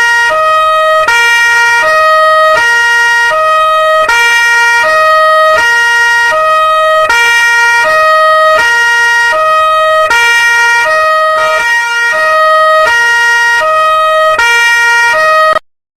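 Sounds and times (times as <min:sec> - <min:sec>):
police two-tone siren: 0:00.0 - 0:15.6.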